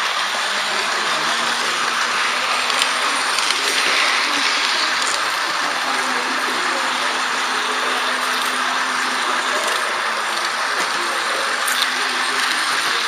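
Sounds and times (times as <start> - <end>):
model train rolling: 0.0 - 13.0.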